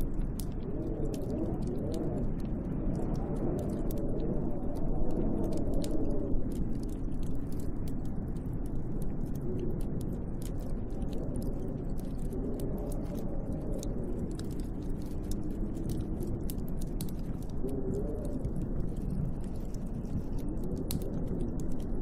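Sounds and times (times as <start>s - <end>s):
fine crackling ticks: 0.0s - 22.0s
howling storm wind: 0.0s - 22.0s.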